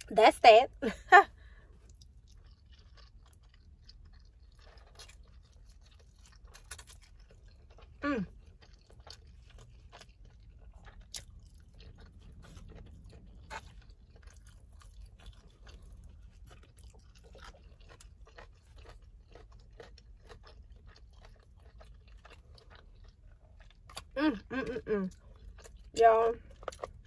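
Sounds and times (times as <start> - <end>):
low steady hum: 0.0 - 27.0
close-up chewing and smacking: 1.3 - 27.0.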